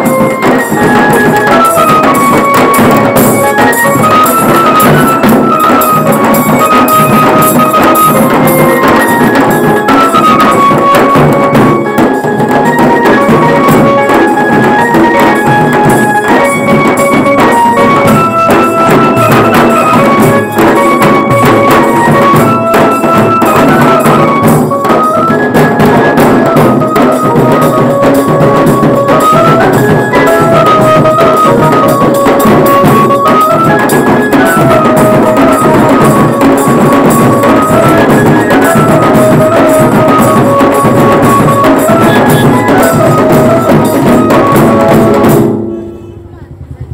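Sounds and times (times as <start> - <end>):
band melody: 0.0 - 46.4.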